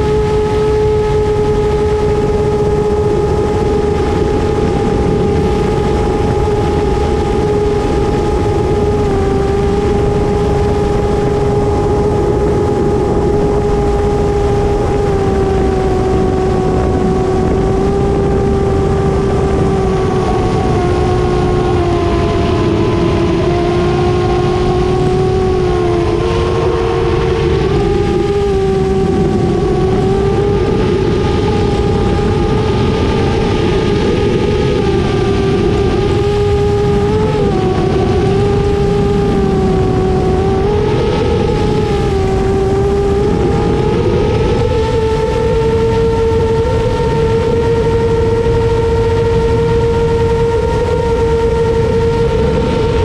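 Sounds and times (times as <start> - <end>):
quadcopter motor whine: 0.0 - 53.0
rumble of rushing air: 0.0 - 53.0.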